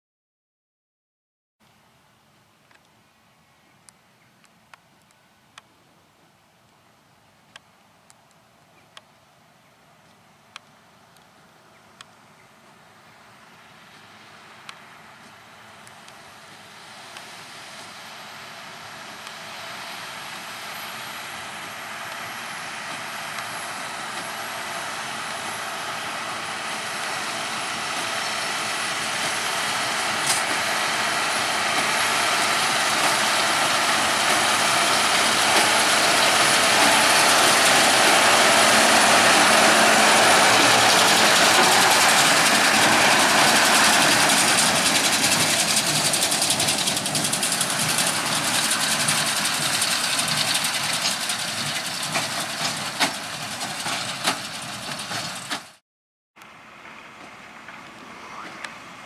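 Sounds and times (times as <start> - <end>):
tractor and baler running: 10.1 - 55.8, 56.4 - 59.0.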